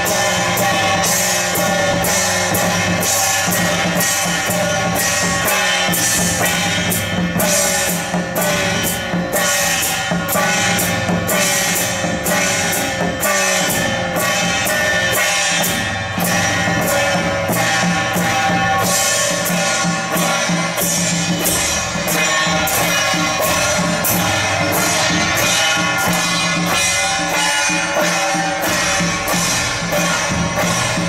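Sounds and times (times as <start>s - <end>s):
drum: 0.0s - 31.0s
hand gongs struck in steady beat: 0.0s - 31.0s.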